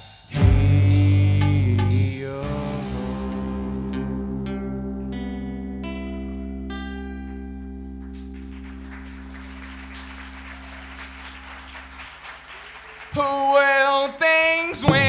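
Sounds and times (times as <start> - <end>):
acoustic guitar chord strummed: 0.3 - 12.2, 14.4 - 15.0.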